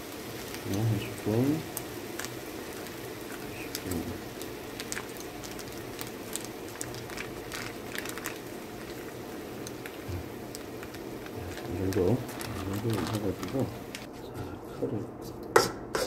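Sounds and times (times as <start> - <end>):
vegetables sizzling in a wok: 0.0 - 14.1
crackles and pops: 0.4 - 14.1.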